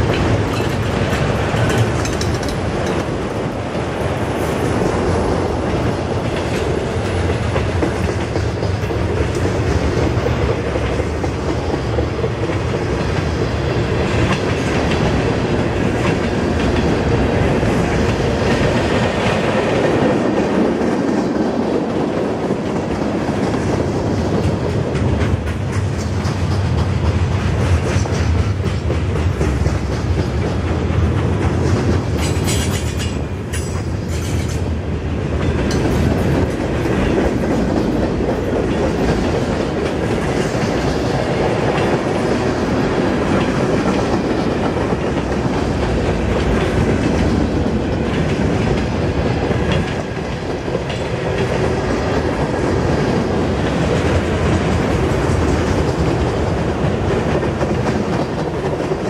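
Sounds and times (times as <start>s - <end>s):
wheels clacking over rail joints: 0.0s - 59.0s.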